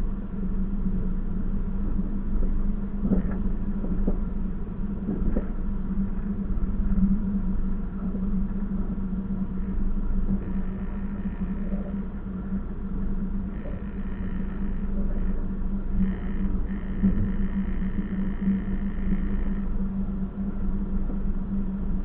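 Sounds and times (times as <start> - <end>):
train rumble and hum: 1.4 - 22.0.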